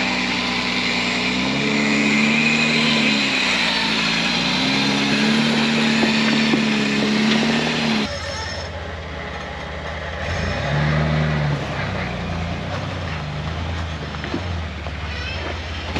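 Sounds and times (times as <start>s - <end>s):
engine pulling under load: 0.0s - 15.9s.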